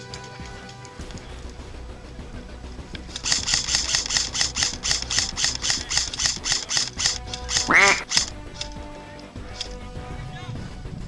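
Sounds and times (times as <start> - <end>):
background music with fast beat: 0.0 - 11.0.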